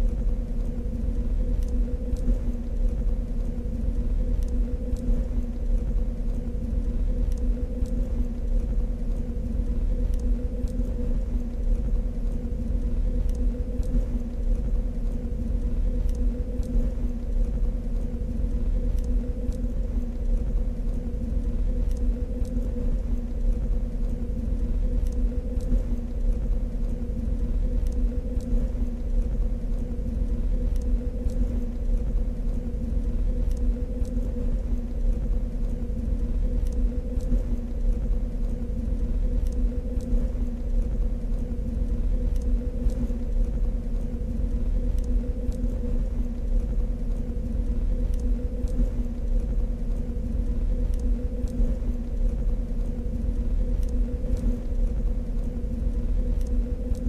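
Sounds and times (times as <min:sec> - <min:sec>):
faint small clicks: 0:00.0 - 0:57.0
low rumble: 0:00.0 - 0:57.0
machine-like hum: 0:00.0 - 0:57.0.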